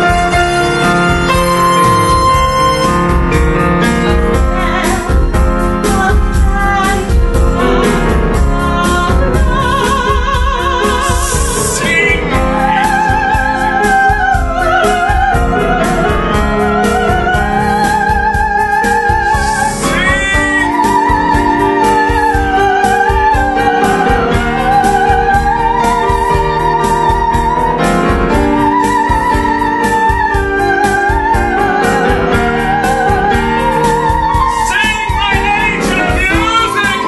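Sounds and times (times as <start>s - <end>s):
grand piano: 0.0s - 37.0s
woman singing operatically: 4.4s - 7.3s, 8.4s - 27.6s, 28.5s - 37.0s.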